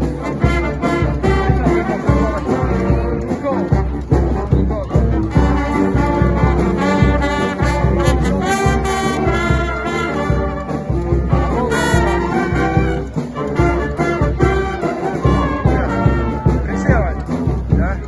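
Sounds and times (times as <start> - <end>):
brass band playing: 0.0 - 18.0
steady low beat: 0.0 - 18.0.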